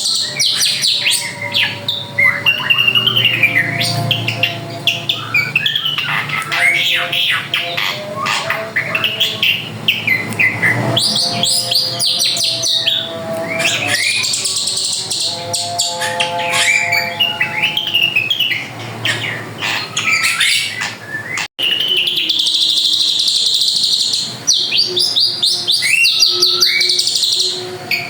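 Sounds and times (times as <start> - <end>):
bird singing rapid trills: 0.0 - 28.0.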